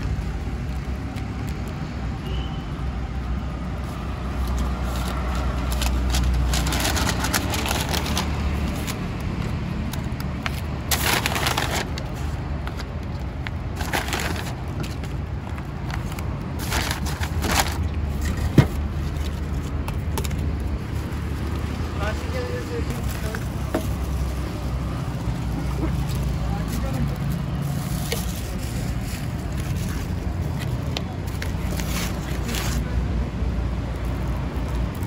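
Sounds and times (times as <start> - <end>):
crackling crunching noise: 0.0 - 35.0
road traffic hum: 0.0 - 35.0.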